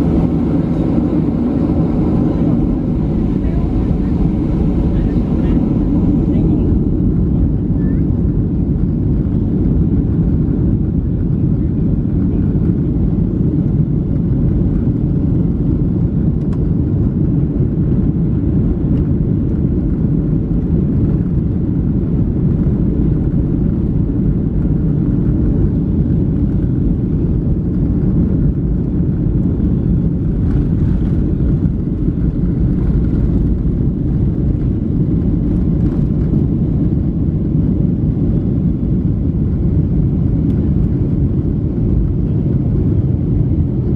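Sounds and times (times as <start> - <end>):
airplane cabin rumble while taxiing: 0.0 - 43.9.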